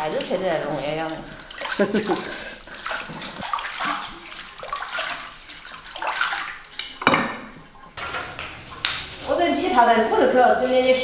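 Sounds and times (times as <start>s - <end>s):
dishes and utensils clattering: 0.0s - 11.0s
water splashing: 0.0s - 11.0s.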